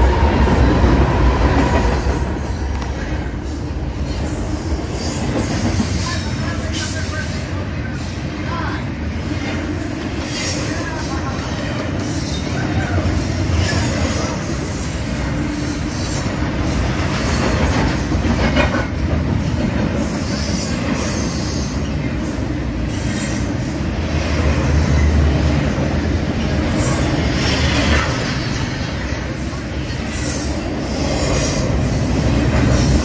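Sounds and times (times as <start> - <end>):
train cars knocking: 0.0 - 33.0
train wheels rumbling on rails: 0.0 - 33.0.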